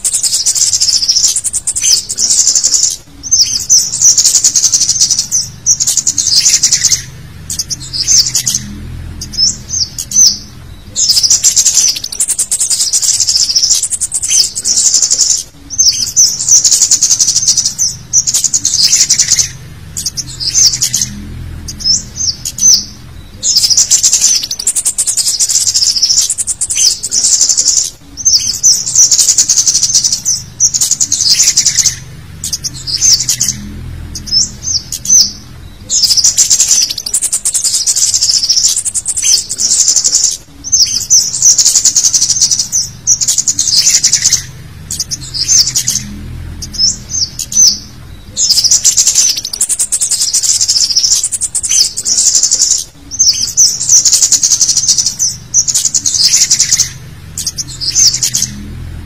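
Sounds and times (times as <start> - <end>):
bird chittering high-pitched calls: 0.0 - 59.0.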